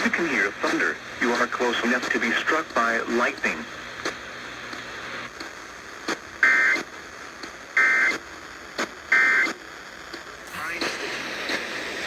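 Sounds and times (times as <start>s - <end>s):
radio hiss: 0.0s - 7.1s, 8.8s - 12.0s.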